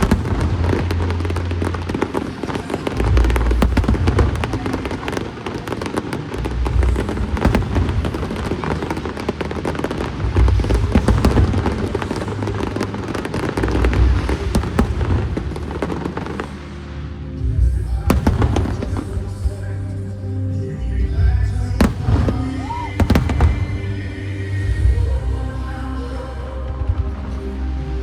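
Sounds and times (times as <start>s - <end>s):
deep firework booms: 0.0s - 16.6s, 17.4s - 19.8s, 21.2s - 25.2s
fireworks crackling and popping: 0.0s - 20.2s, 21.1s - 25.4s.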